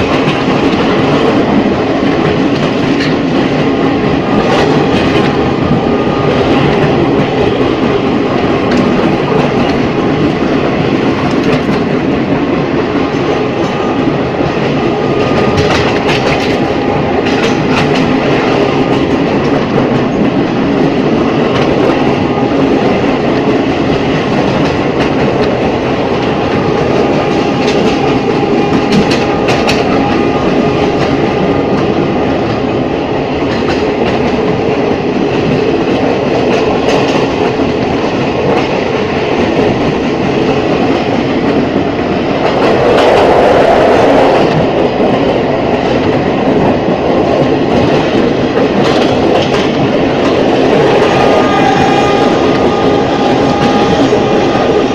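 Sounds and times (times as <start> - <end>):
sharp rail clicks: 0.0 - 20.9, 21.5 - 54.9
train wheels rumbling on rail: 0.0 - 54.9.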